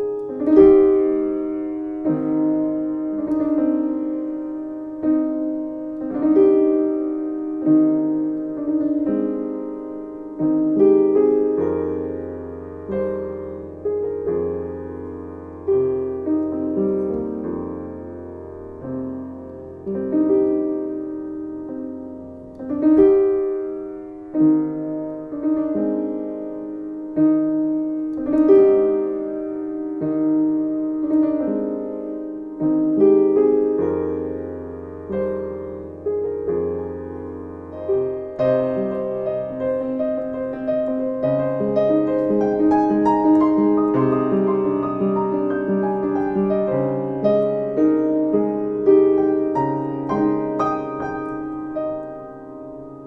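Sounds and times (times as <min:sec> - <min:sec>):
slow solo piano: 0:00.0 - 0:53.0.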